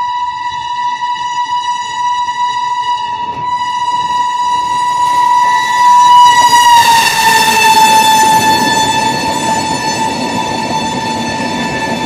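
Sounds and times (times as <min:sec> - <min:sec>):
locomotive horn long blast: 0:00.0 - 0:12.0
train rumble: 0:00.0 - 0:12.0.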